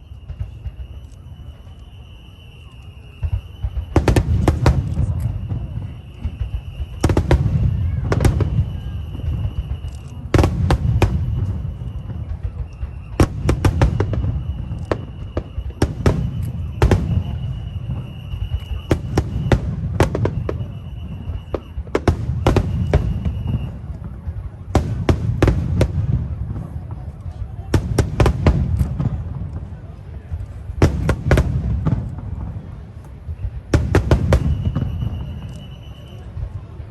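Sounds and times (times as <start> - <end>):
fireworks bangs: 0.0 - 36.9
low rumble of fireworks: 0.0 - 36.9.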